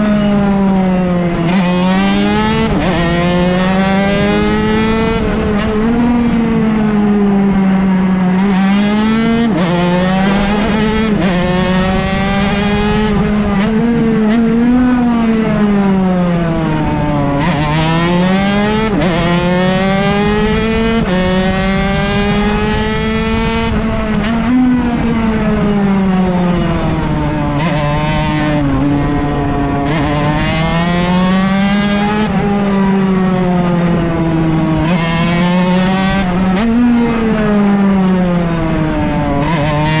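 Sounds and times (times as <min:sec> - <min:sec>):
two-stroke motorcycle racing at high revs: 0:00.0 - 0:40.0.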